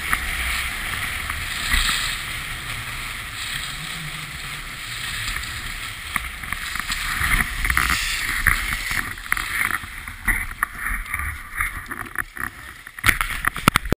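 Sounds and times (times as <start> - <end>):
skis scraping over snow: 0.0 - 13.9
wind on microphone: 0.0 - 13.9.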